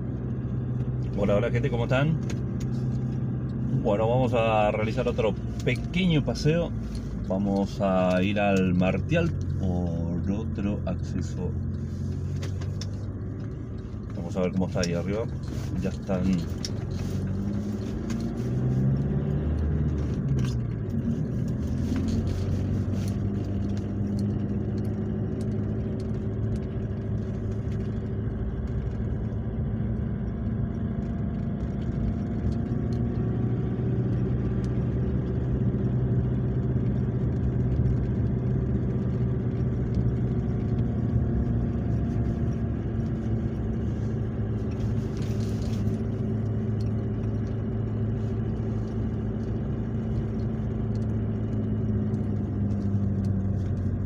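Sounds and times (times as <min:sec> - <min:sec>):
car engine: 0:00.0 - 0:54.0
road noise inside car: 0:00.0 - 0:54.0.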